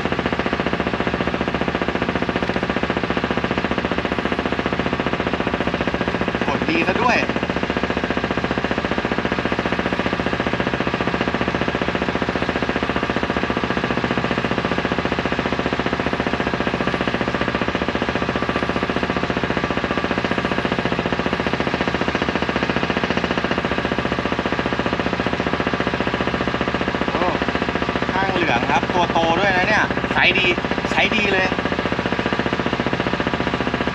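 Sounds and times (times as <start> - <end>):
engine running steadily: 0.0 - 33.9.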